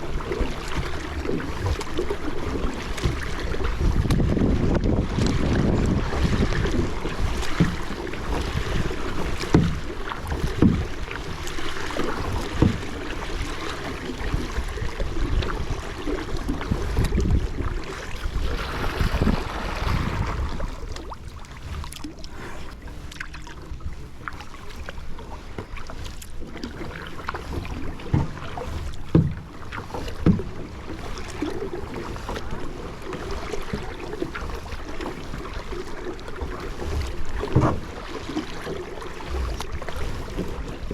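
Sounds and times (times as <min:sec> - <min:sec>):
water splashing around kayak: 0:00.0 - 0:40.9.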